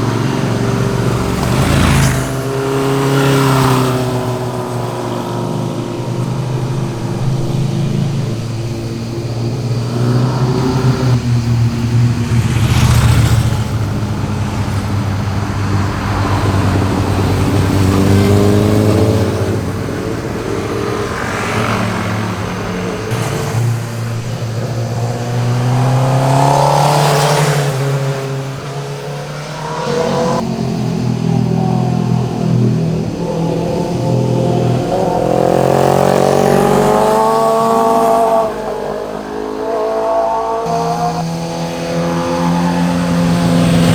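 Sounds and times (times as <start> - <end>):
motorcycles passing and revving: 0.0 - 43.9.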